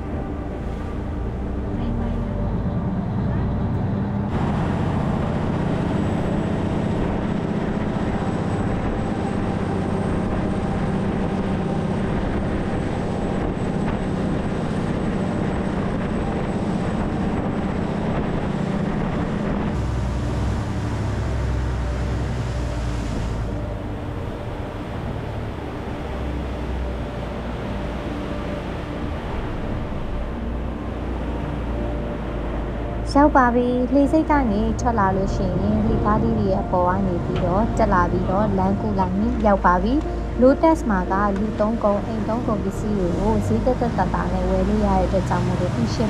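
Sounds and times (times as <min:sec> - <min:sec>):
boat engine running hard: 0:00.0 - 0:46.0
water rushing along hull: 0:00.0 - 0:46.0.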